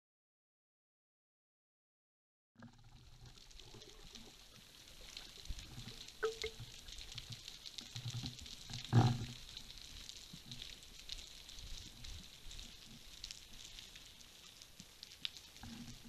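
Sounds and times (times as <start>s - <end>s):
faint underwater crackle of ticks: 2.6s - 16.0s.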